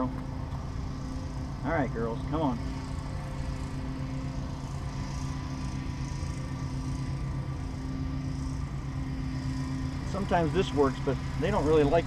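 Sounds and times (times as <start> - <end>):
honey bee colony buzzing: 0.0 - 12.0.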